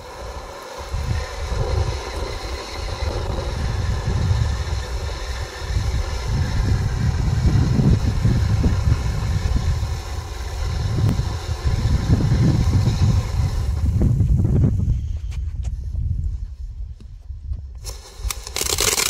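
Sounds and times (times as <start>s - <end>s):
fountain firework hissing: 0.0s - 14.4s, 17.8s - 19.0s
heavy low rumble: 0.9s - 17.8s.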